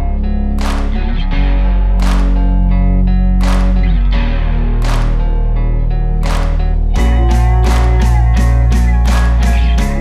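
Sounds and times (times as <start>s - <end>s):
background music with heavy bass: 0.0s - 10.0s.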